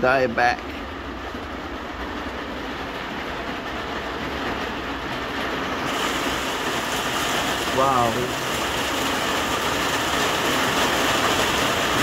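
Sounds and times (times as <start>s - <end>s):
rain on greenhouse roof: 0.0s - 12.0s.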